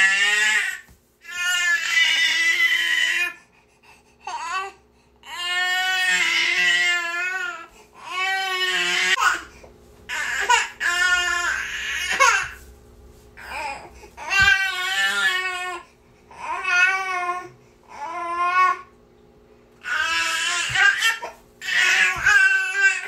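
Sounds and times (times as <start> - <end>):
baby crying: 0.0 - 3.4, 4.3 - 9.5, 10.1 - 12.6, 13.4 - 18.9, 19.8 - 23.0.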